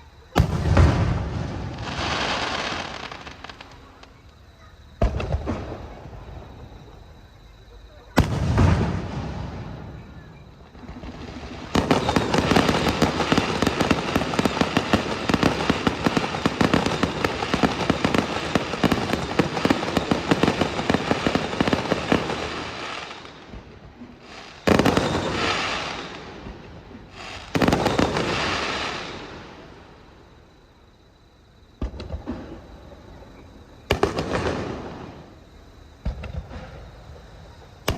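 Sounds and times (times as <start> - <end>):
fireworks bangs and crackling: 0.0 - 7.3, 7.9 - 30.4, 31.8 - 37.9.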